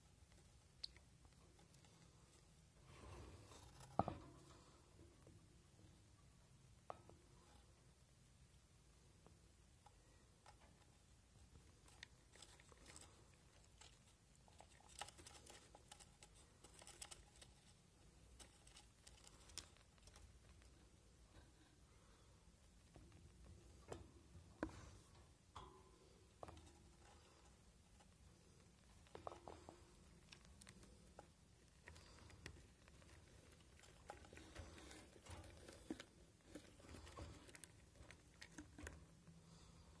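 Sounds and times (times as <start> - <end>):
faint rustles and ticks: 0.0 - 40.0.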